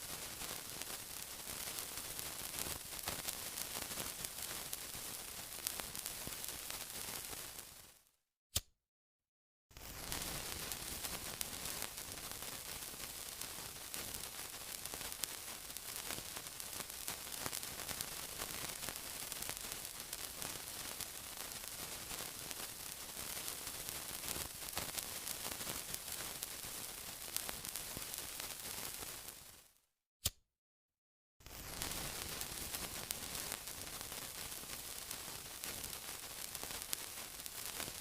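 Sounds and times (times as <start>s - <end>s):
sizzling hiss: 0.0s - 8.0s, 9.8s - 29.7s, 31.5s - 38.0s.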